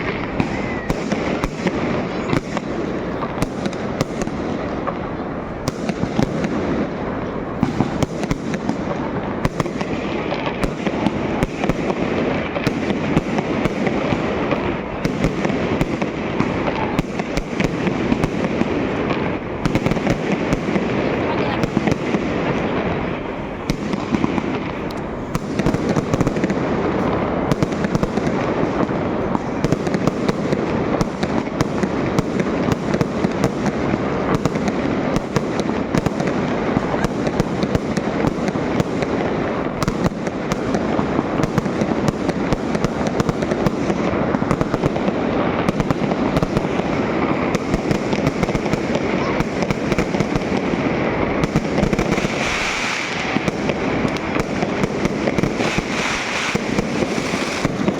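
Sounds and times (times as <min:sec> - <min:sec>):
fireworks crackling bangs: 0:00.0 - 0:57.9.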